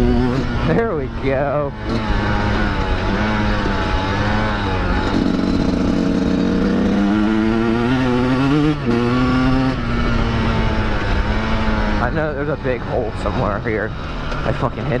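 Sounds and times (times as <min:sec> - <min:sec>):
two-stroke dirt bike engine revving: 0:00.0 - 0:15.0.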